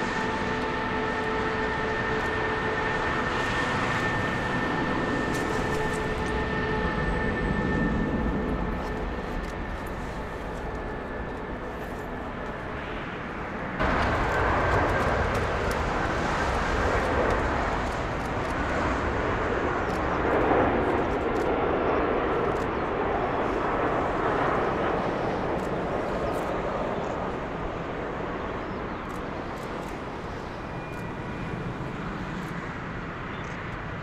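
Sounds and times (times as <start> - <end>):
jet engine noise: 0.0 - 34.0.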